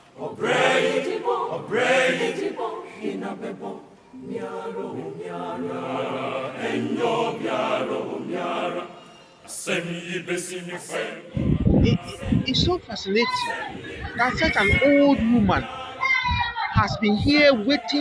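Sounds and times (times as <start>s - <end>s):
group chanting chorus: 0.0s - 18.0s.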